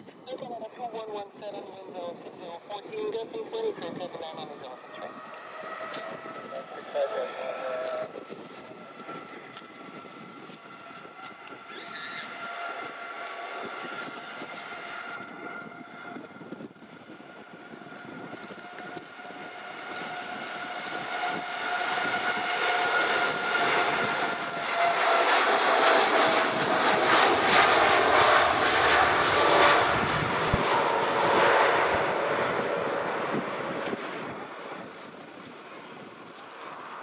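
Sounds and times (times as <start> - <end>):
jet airliner passing: 0.1 - 37.0.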